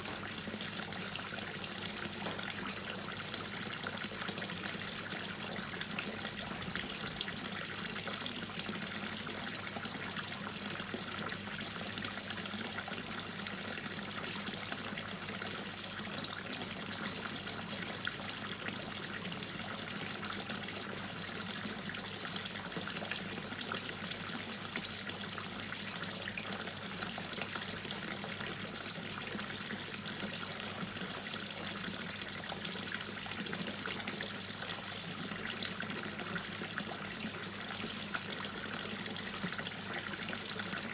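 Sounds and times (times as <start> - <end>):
water dripping and trickling: 0.0 - 40.9.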